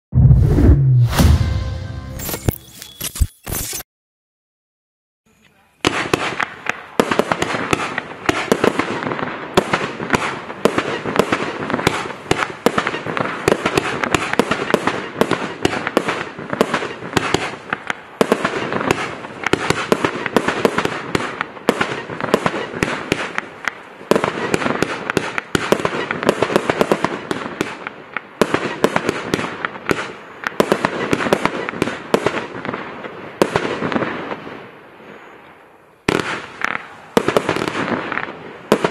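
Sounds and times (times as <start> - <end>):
firework cake barrage: 5.3 - 38.9.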